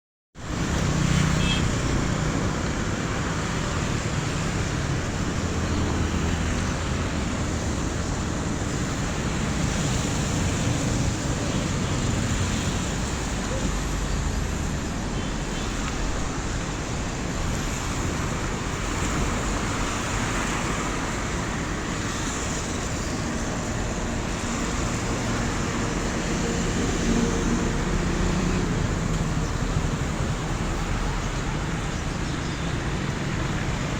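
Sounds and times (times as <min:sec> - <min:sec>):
traffic rumble: 0:00.4 - 0:33.9
tyres on wet road: 0:00.4 - 0:33.9
rain hissing: 0:00.5 - 0:33.9.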